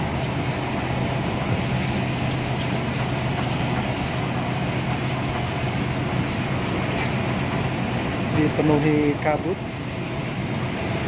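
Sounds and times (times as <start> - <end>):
coach engine drone: 0.0 - 11.0
constant low hum: 0.0 - 11.0
road noise: 0.0 - 11.0.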